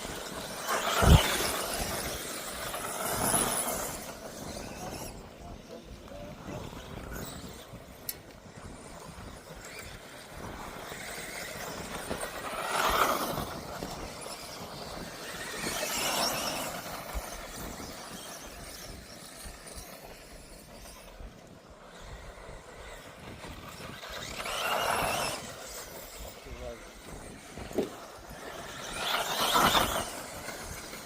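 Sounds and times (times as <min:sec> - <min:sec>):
rc buggies whirring whine: 0:00.0 - 0:31.0.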